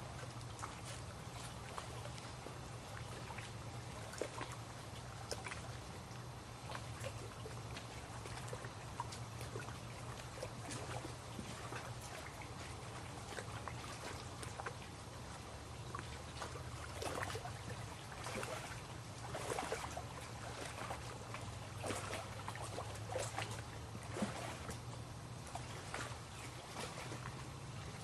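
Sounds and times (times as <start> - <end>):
low steady hum: 0.0 - 28.0
water lapping and splashing: 0.0 - 28.0.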